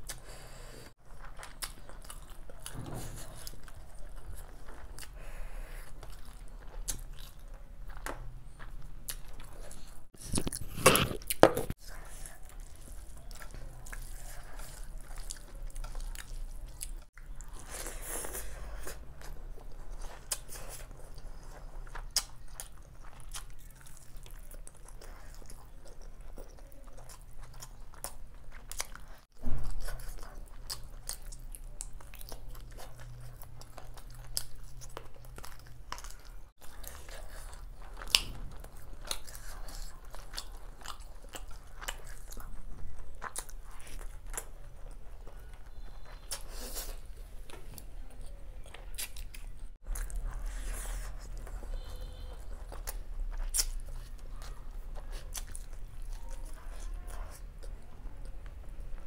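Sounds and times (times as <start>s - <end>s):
close chewing with wet mouth smacks: 0.9s - 10.6s, 11.3s - 59.0s.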